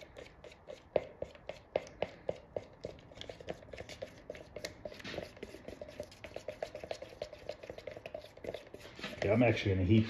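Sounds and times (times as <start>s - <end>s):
stir stick tapping in plastic cup: 0.0s - 9.5s.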